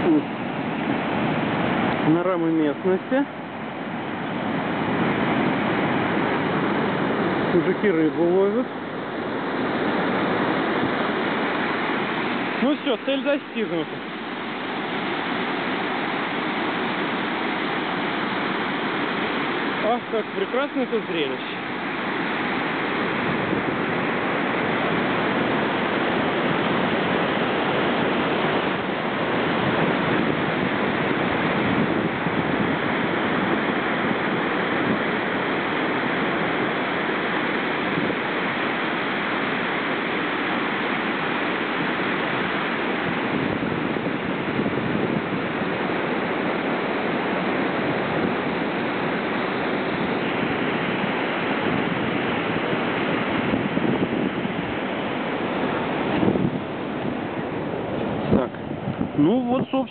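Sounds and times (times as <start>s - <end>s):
water rushing through spillway: 0.0s - 59.9s.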